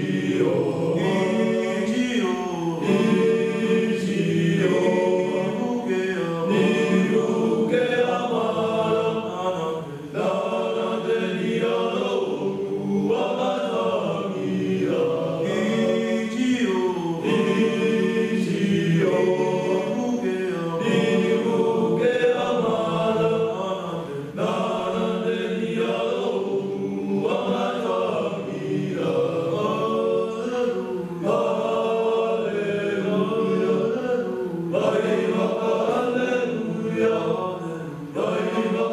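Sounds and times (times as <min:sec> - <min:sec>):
boys' choir singing unaccompanied: 0:00.0 - 0:38.9.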